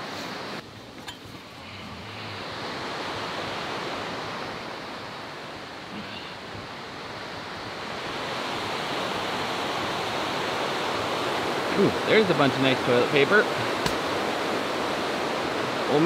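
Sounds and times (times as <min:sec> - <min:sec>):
river rapids rushing: 0:01.5 - 0:16.0.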